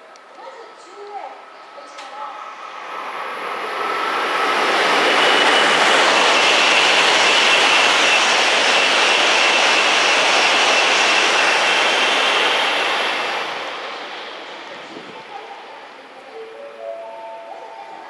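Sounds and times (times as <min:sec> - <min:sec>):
train passing at high speed: 0:00.0 - 0:18.0.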